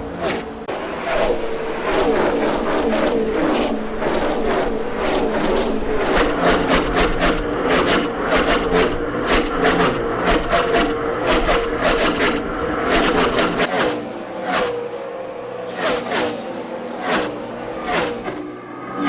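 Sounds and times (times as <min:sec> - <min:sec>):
race car engines surging: 0:00.0 - 0:19.0.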